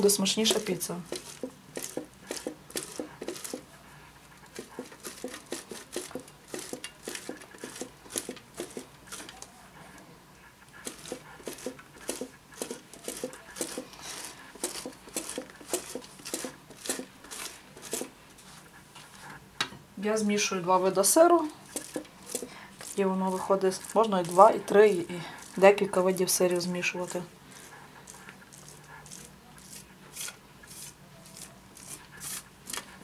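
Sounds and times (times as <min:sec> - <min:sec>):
cheese rasping on metal grater: 0:00.4 - 0:03.8, 0:04.4 - 0:09.4, 0:10.8 - 0:19.2, 0:21.5 - 0:33.0.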